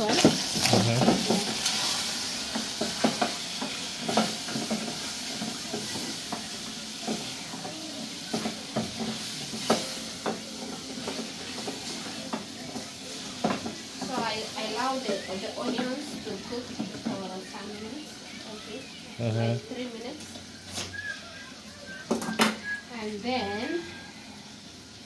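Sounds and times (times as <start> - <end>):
onions sizzling in a pot: 0.0 - 25.0.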